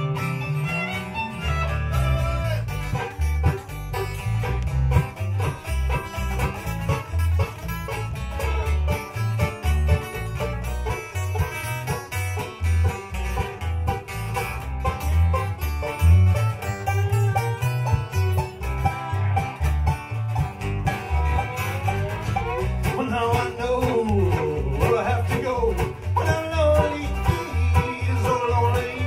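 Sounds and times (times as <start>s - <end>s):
bluegrass band playing: 0.0s - 29.0s.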